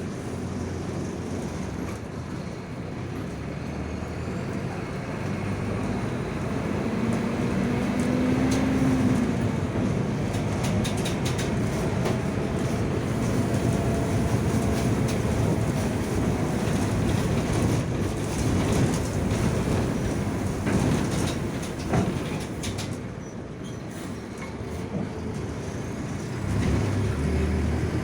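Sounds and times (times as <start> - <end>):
bus engine running: 0.0 - 28.0.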